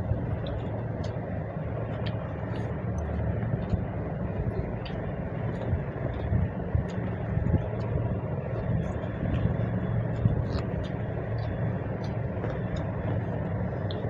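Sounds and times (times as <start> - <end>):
chewing and lip smacking: 0.0 - 14.0
low background rumble: 0.0 - 14.0.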